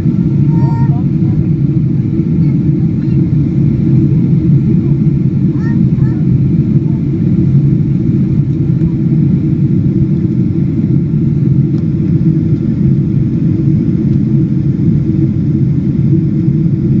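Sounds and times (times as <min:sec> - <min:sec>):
airliner low rumble: 0:00.0 - 0:17.0.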